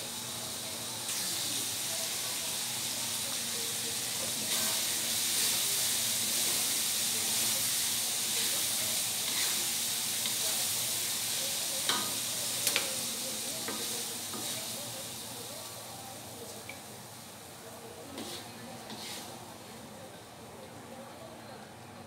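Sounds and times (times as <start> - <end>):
food sizzling in a wok: 0.0 - 20.4.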